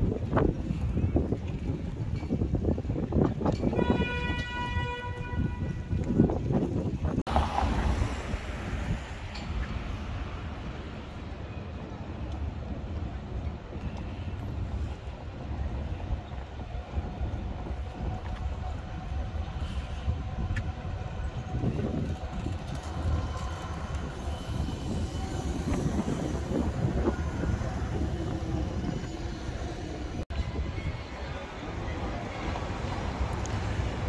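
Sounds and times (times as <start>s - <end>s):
low street rumble: 0.0s - 34.0s
tram passing on rails: 0.0s - 34.0s.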